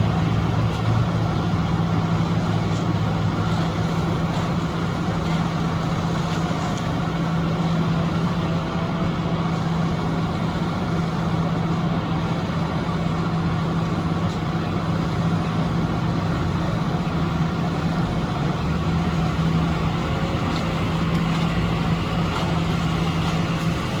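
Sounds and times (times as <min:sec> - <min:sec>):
heavy machinery engine humming: 0:00.0 - 0:24.0.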